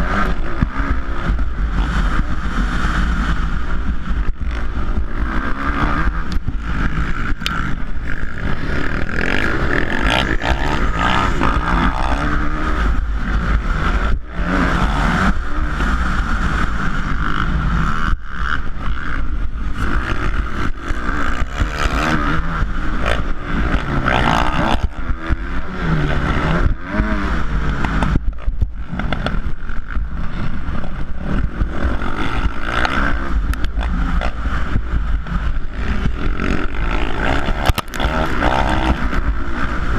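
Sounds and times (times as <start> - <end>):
motocross bike engine revving: 0.0 - 39.9
wind on microphone: 0.0 - 39.9.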